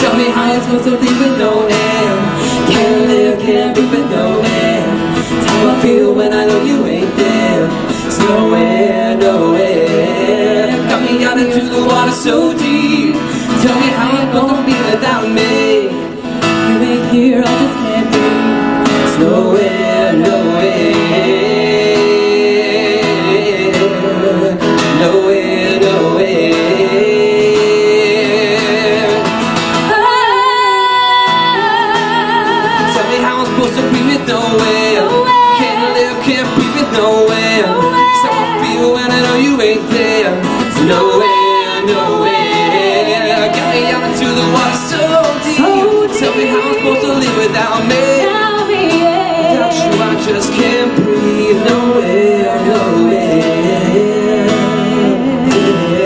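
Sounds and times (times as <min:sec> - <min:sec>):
acoustic guitar strumming: 0:00.0 - 0:56.0
man and woman singing: 0:00.0 - 0:56.0.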